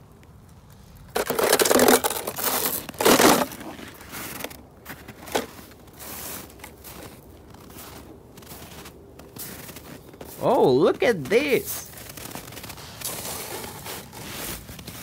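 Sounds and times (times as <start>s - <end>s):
snow crunching: 0.7s - 15.0s.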